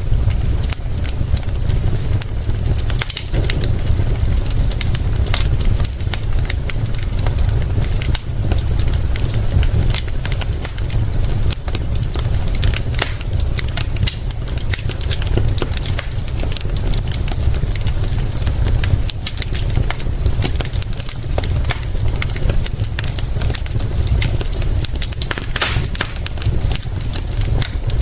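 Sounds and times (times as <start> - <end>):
steady low rumble: 0.0 - 28.0
wood fire crackling and popping: 0.0 - 28.0.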